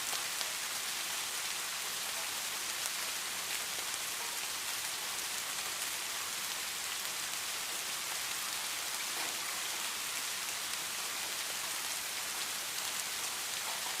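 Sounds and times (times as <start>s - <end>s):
steady falling rain: 0.0s - 14.0s.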